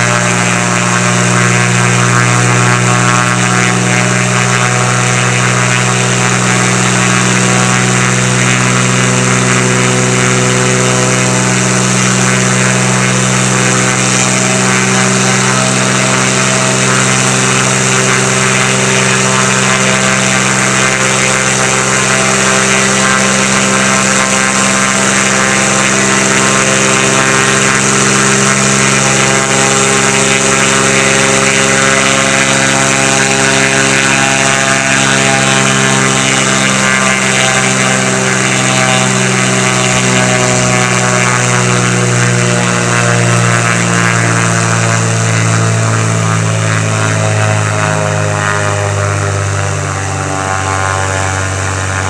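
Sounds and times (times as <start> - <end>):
propeller airplane engine droning: 0.0 - 52.0.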